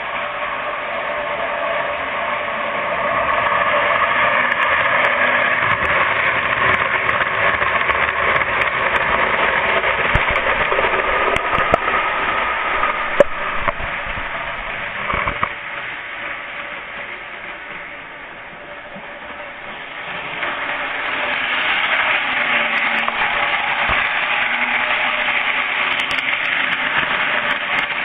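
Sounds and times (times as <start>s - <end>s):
model train motor whine and rumble: 0.0s - 28.0s.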